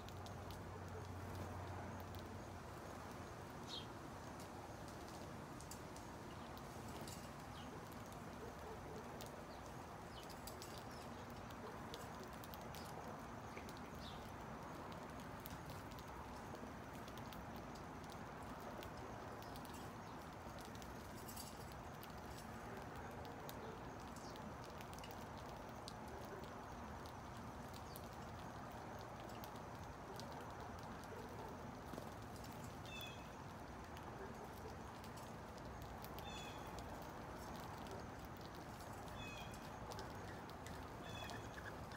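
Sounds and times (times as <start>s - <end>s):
birds pecking on concrete: 0.0s - 41.9s.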